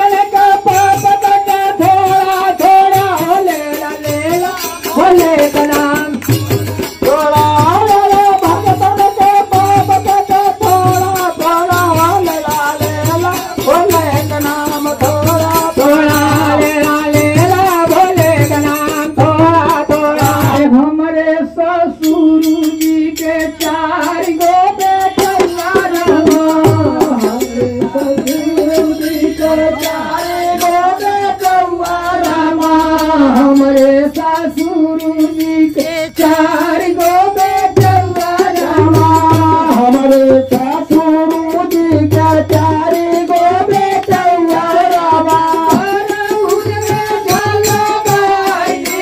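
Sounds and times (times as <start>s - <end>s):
man singing: 0.0s - 49.0s
hand drum beat: 0.5s - 20.7s, 24.1s - 33.8s, 35.9s - 49.0s.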